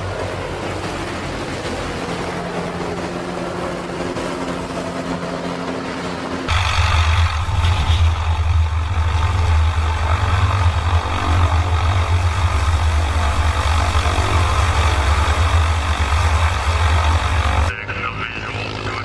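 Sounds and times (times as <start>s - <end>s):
turbine and rotor hiss: 0.0s - 17.8s
helicopter drone: 0.0s - 19.0s.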